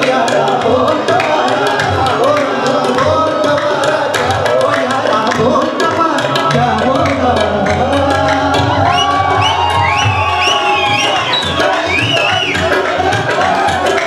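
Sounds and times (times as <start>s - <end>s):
hand drum beat: 0.0s - 14.0s.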